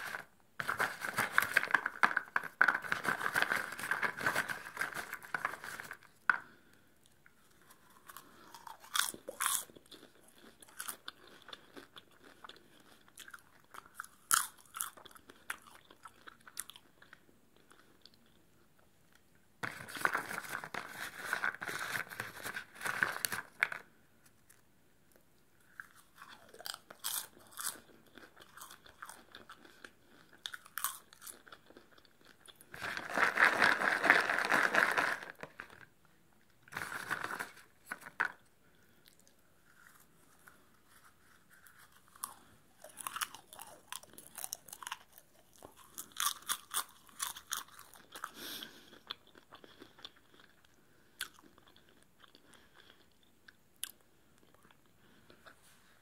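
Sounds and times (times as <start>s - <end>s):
chewing crunchy popcorn: 0.0s - 18.7s, 19.6s - 35.9s, 36.6s - 55.6s.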